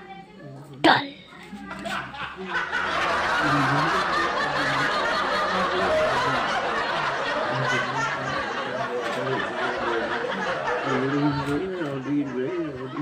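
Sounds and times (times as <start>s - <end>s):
people talking: 0.0s - 13.0s
people laughing: 1.4s - 13.0s.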